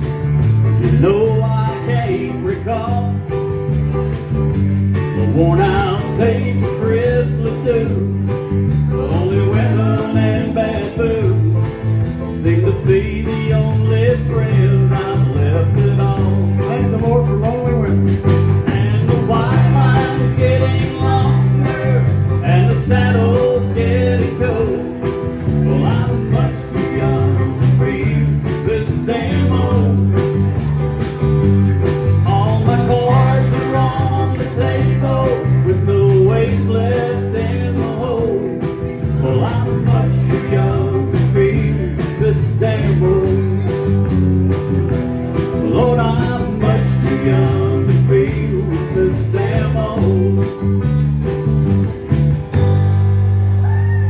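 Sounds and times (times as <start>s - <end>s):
acoustic guitar: 0.0s - 54.0s
electric bass: 0.0s - 54.0s
keyboard: 0.0s - 54.0s.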